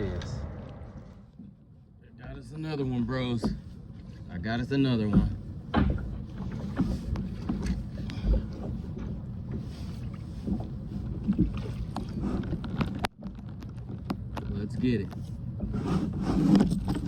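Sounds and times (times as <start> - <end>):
water around moving kayak: 0.0 - 17.0.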